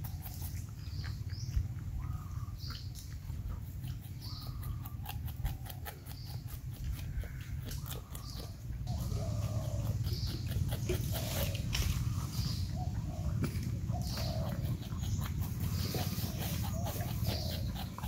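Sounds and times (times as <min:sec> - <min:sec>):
porcupine chewing fruit: 0:00.0 - 0:18.0.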